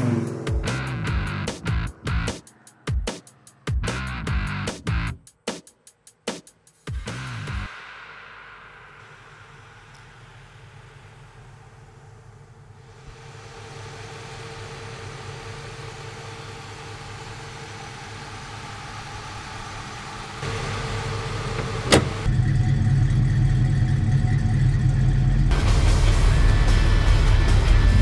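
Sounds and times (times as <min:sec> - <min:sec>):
car engine idling: 0:00.0 - 0:05.2, 0:07.2 - 0:28.0.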